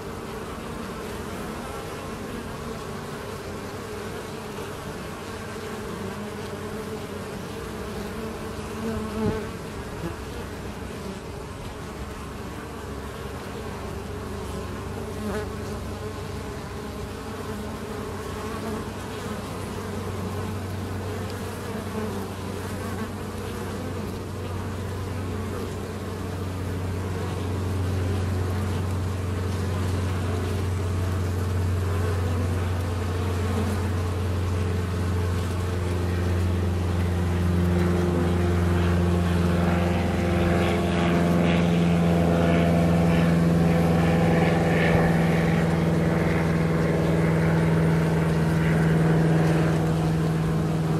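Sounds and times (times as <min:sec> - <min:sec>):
bees buzzing: 0:00.0 - 0:50.9
low steady hum: 0:00.0 - 0:50.9.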